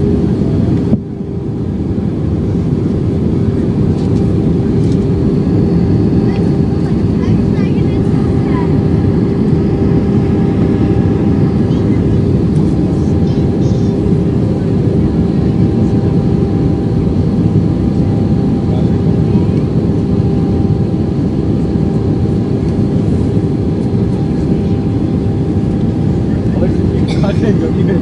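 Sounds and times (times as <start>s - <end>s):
airplane engines droning: 0.0s - 28.0s.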